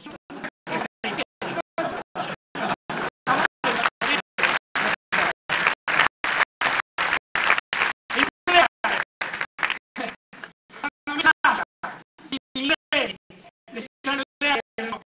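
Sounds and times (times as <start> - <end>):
stuttering stage sound: 0.0 - 13.4.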